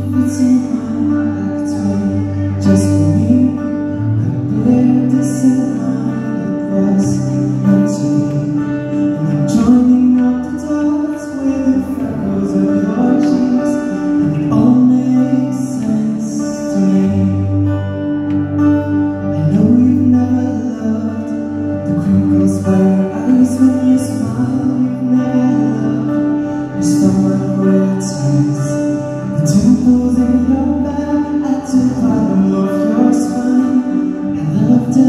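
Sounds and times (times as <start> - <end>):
man singing into microphone: 0.0 - 35.0
pop backing track with bass: 0.0 - 35.0.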